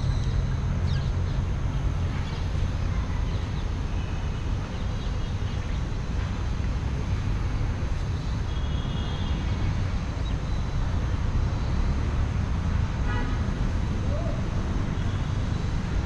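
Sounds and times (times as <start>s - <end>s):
distant city traffic: 0.0s - 16.0s.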